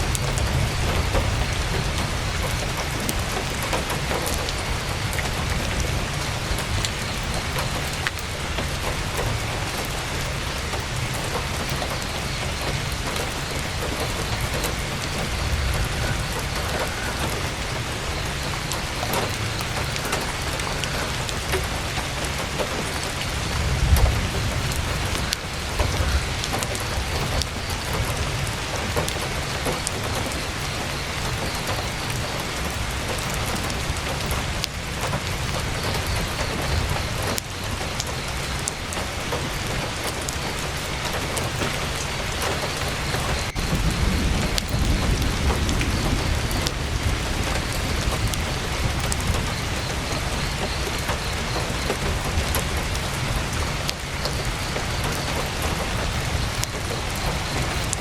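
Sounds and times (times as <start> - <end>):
heavy rain on tent fabric: 0.0 - 58.0.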